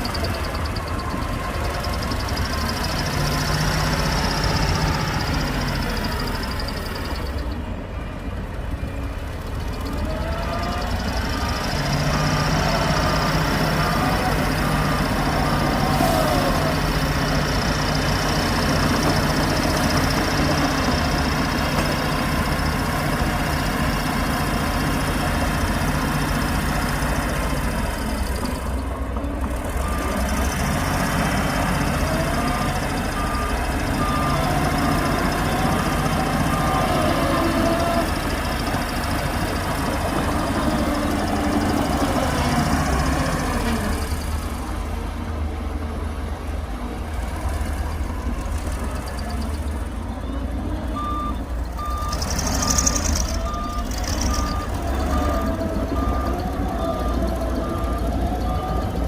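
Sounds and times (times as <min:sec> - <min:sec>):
reversing alarm beeping: 0:00.0 - 0:44.7, 0:47.4 - 0:59.0
bulldozer diesel engine running: 0:00.0 - 0:59.0.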